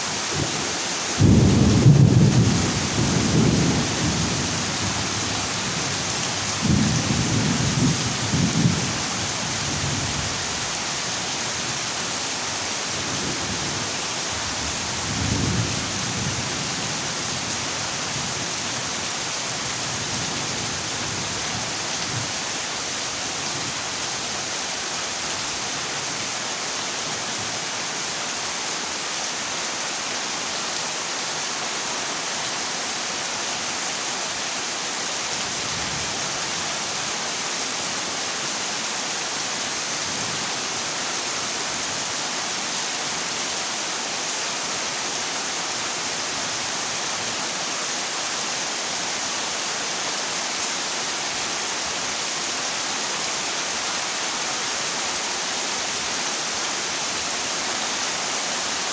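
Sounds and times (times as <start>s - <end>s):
heavy rain on metal roof: 0.0s - 58.9s.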